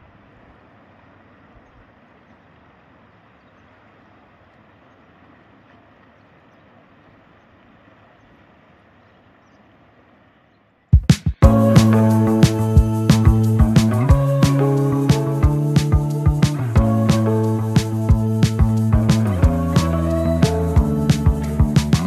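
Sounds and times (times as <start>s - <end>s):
faint outdoor rushing noise: 0.0s - 22.0s.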